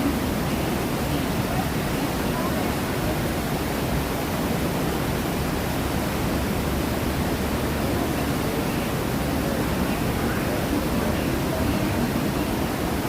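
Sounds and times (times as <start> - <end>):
rushing churning water: 0.0 - 13.0.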